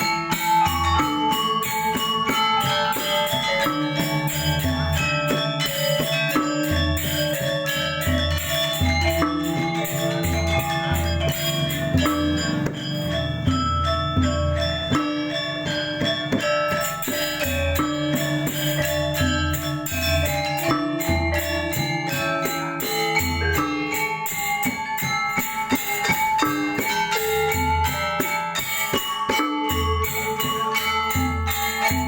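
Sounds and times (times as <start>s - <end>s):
metallophones ringing: 0.0s - 32.0s
small cymbals clashing: 0.0s - 32.0s.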